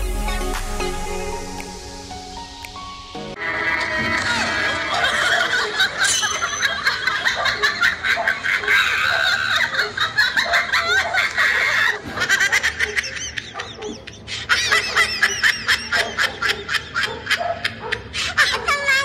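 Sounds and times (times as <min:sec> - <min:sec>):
high-pitched laughter: 0:03.4 - 0:19.0.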